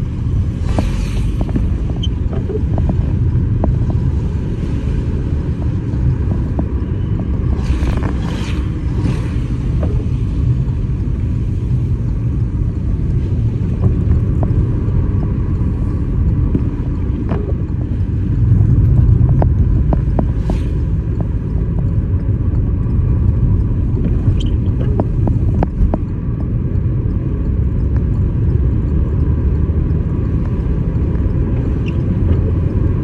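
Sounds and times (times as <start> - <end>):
car tyres and engine rumble: 0.0 - 33.0.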